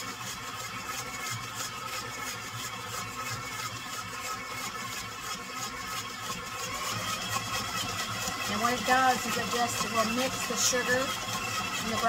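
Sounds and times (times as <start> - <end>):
stand mixer humming: 0.0 - 12.0.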